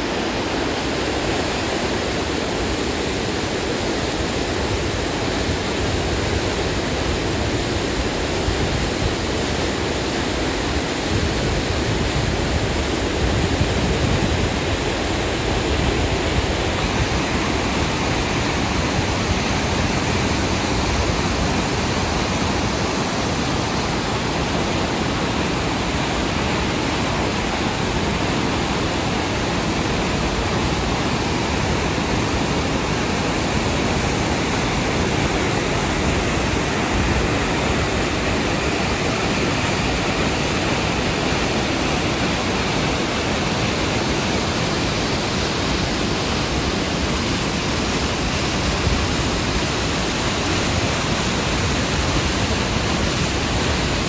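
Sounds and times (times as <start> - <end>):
waterfall and rapids rushing: 0.0 - 54.0.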